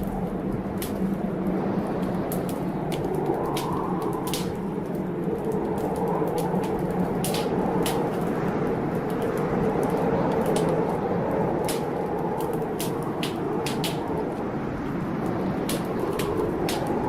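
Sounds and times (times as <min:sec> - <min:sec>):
blizzard wind blowing: 0:00.0 - 0:17.0
wood fire crackling: 0:00.0 - 0:17.0.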